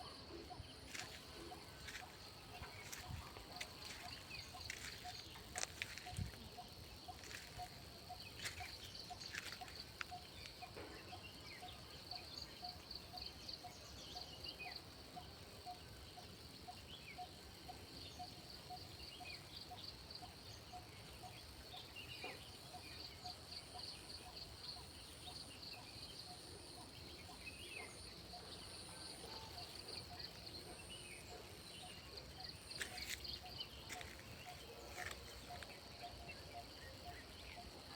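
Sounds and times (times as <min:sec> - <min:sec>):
insects trilling: 0:00.0 - 0:37.9.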